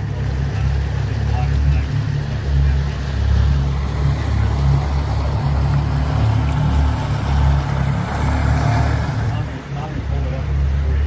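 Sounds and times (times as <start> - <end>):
outboard motors rumbling: 0.0 - 11.0
water rushing: 0.0 - 11.0.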